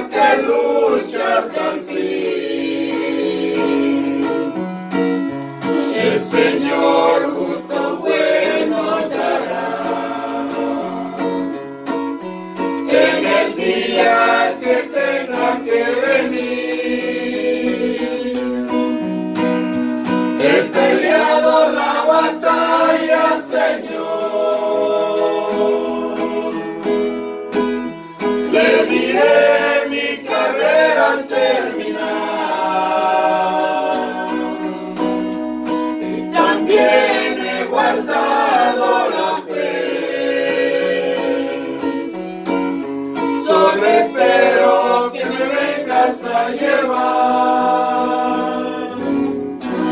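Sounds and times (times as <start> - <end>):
group singing a hymn: 0.0 - 49.9
strummed guitar: 0.0 - 49.9.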